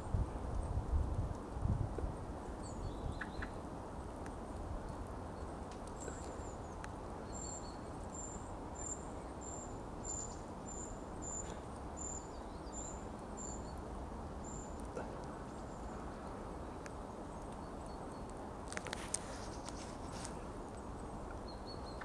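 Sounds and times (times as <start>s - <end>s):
low background hiss: 0.0s - 22.0s.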